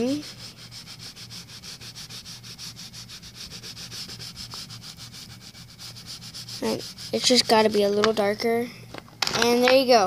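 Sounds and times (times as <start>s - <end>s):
pencil scratching on paper: 0.0s - 8.4s.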